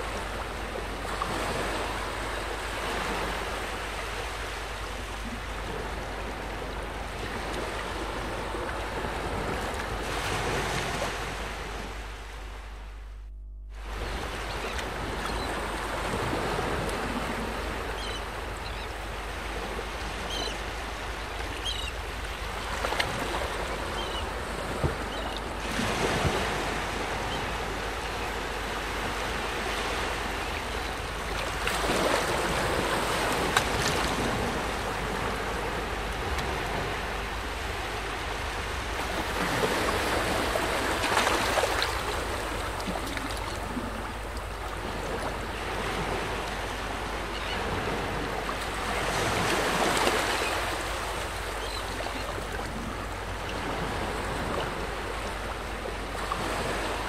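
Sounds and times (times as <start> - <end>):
gentle waves washing ashore: 0.0 - 13.0, 13.7 - 57.0.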